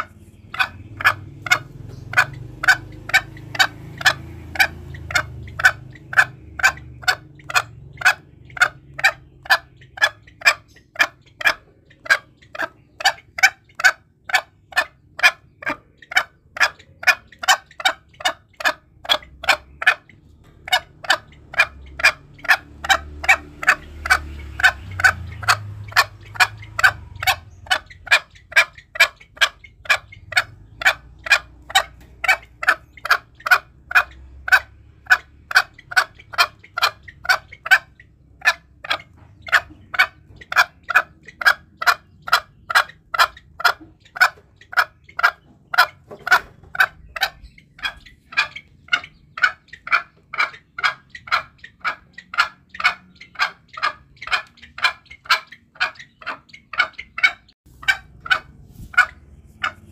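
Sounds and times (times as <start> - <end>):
junglefowl calling sharp notes: 0.0 - 59.9.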